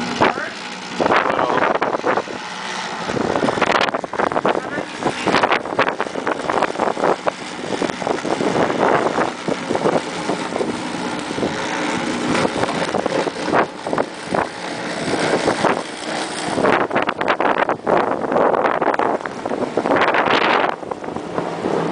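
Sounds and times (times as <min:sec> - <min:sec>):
blizzard wind buffeting microphone: 0:00.0 - 0:21.9.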